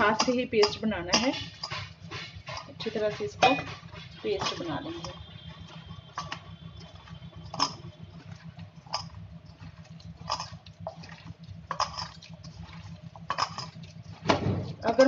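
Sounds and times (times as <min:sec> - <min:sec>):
hand squelching wet batter in bowl: 0:00.0 - 0:15.0.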